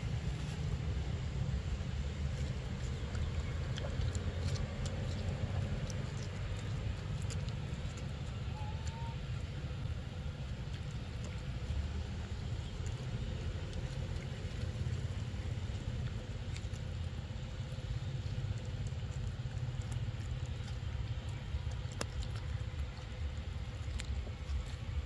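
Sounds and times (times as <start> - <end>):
monkey chewing clicks: 0.0 - 25.0.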